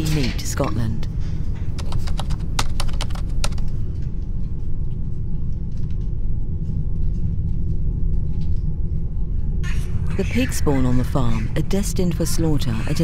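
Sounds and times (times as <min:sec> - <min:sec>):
low rumbling drone: 0:00.0 - 0:13.0.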